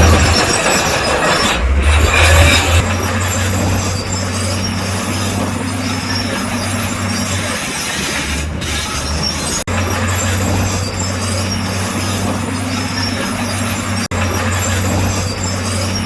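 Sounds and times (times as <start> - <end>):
low diesel engine hum: 0.0 - 16.0
steel tracks rattling: 0.0 - 16.0.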